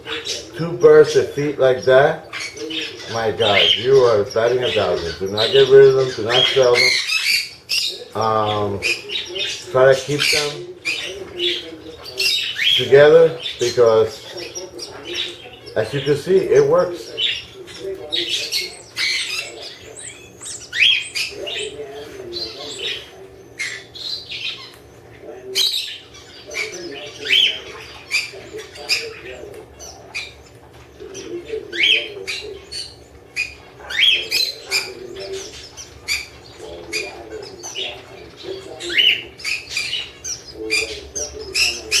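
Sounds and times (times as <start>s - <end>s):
canaries chirping: 0.0s - 42.0s
low steady murmur: 0.0s - 42.0s.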